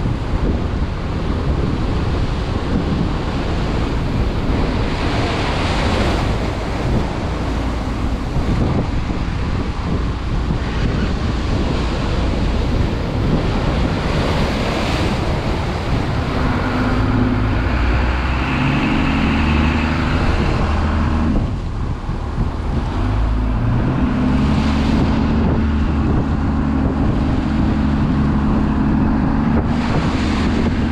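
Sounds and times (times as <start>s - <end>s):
boat engine running: 0.0s - 30.9s
surf and water against hull: 0.0s - 30.9s
wind buffeting microphone: 0.0s - 30.9s.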